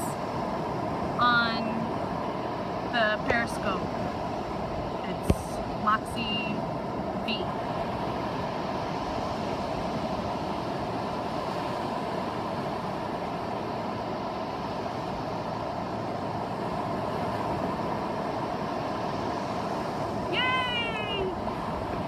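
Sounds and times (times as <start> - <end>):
ocean surf on a beach: 0.0 - 22.0.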